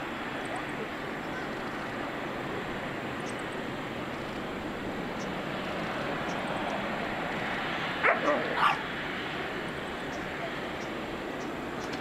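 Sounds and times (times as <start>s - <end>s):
distant jet engine: 0.0s - 12.0s.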